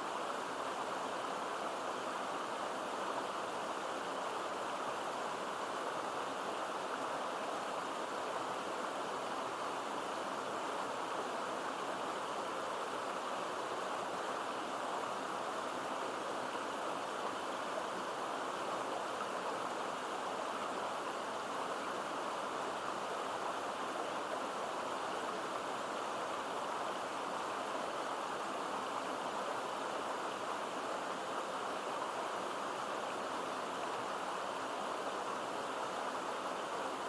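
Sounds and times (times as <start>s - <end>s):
stream and small waterfall rushing: 0.0s - 37.0s.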